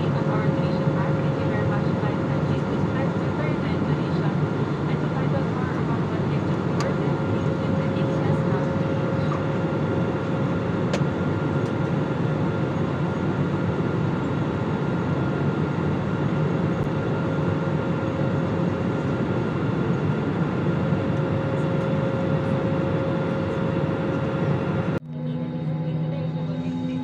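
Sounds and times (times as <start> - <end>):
airliner cabin noise: 0.0 - 27.0.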